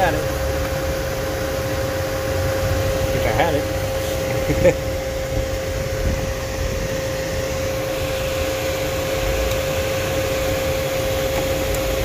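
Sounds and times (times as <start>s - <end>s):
cooling fans rushing: 0.0s - 12.0s.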